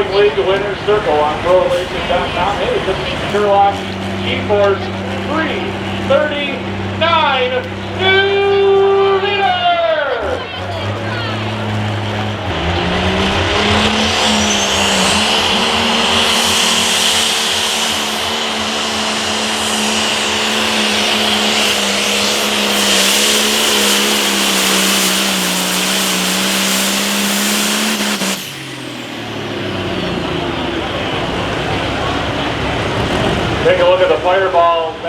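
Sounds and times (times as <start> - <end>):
high turbo whine: 0.0 - 35.0
tractor engine droning at full throttle: 0.0 - 35.0.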